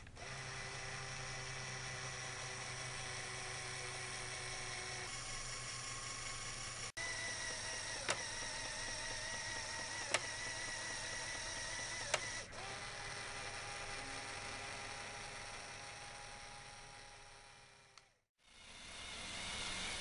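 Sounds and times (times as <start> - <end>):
toy motors and gears whirring: 0.0 - 20.0.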